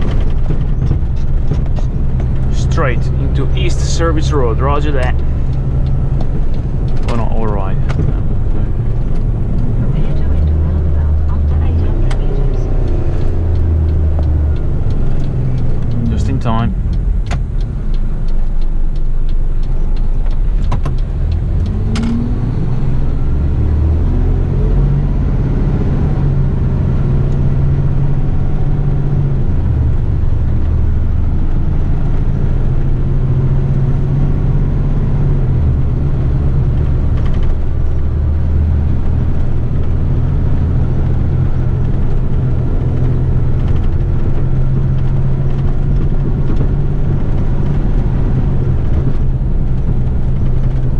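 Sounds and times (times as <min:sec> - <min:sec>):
truck diesel engine accelerating: 0:00.0 - 0:50.9.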